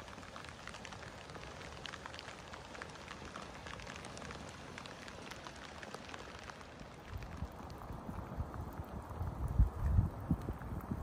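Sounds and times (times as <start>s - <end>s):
rain hiss: 0.0s - 11.0s
raindrops ticking: 0.0s - 11.0s.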